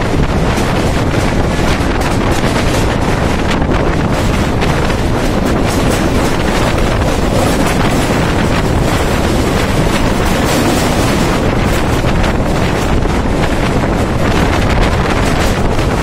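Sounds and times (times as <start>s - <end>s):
moving train running noise: 0.0s - 16.0s
wind on microphone: 0.0s - 16.0s.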